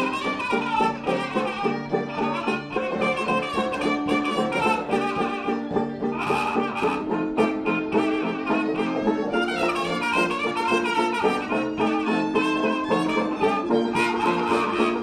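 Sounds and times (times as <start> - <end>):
background music with quick beat: 0.0 - 15.0.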